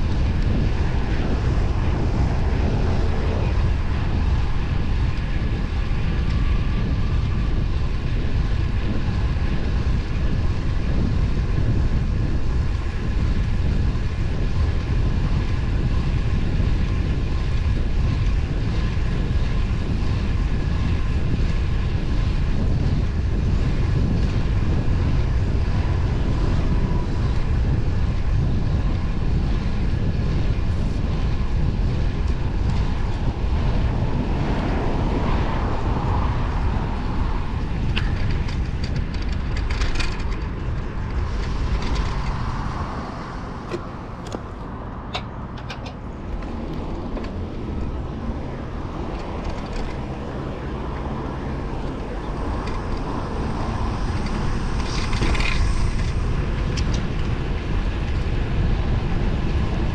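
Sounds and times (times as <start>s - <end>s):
bicycle road noise: 0.0s - 59.9s
wind rush on microphone: 0.0s - 59.9s.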